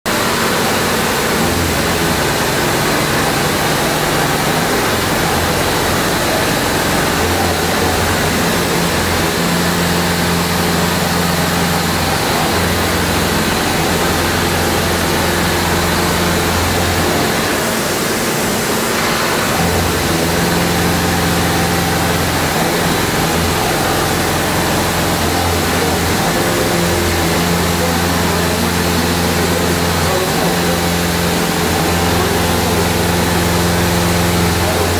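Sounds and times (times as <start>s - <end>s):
low machine drone: 0.1s - 34.9s.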